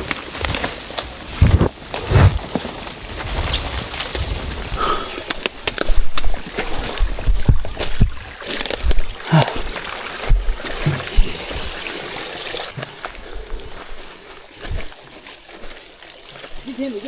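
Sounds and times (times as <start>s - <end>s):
footsteps wading through water: 0.0s - 17.0s
water splashing and trickling: 0.0s - 17.0s.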